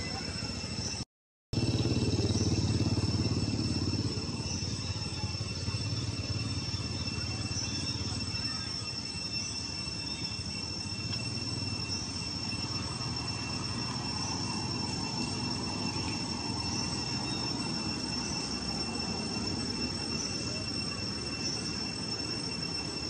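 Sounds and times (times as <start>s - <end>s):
insects droning: 0.0s - 1.0s, 1.6s - 23.0s.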